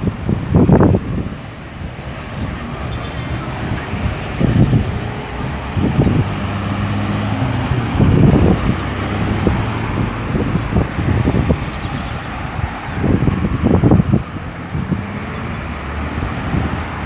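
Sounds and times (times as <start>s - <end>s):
cars and trucks passing: 0.0s - 17.0s
low engine hum: 0.0s - 17.0s.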